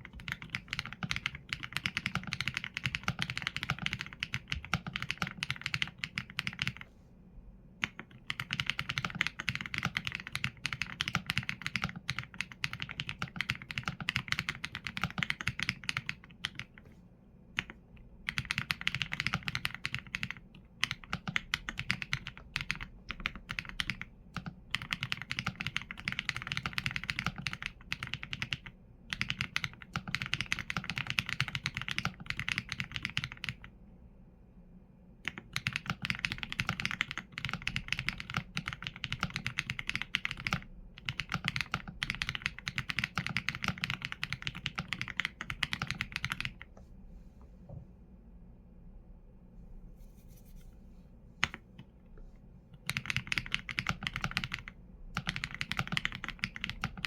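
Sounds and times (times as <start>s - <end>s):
typing on mechanical keyboard: 0.0s - 6.8s, 7.8s - 16.8s, 17.6s - 33.7s, 35.2s - 46.7s, 52.8s - 57.0s.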